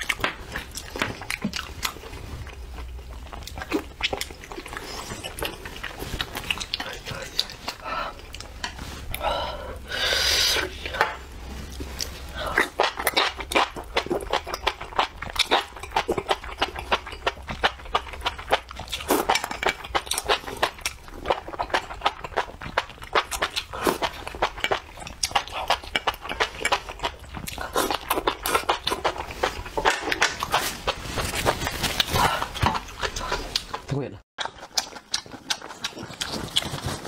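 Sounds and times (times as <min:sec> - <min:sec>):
slurping and chewing: 0:00.0 - 0:37.0.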